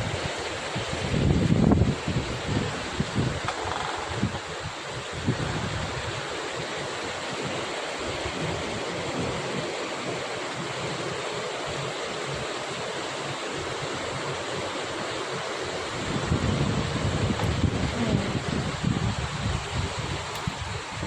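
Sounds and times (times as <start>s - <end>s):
wind rumbling on microphone: 0.0s - 12.4s, 15.4s - 21.0s
steady rain hiss: 0.0s - 21.0s.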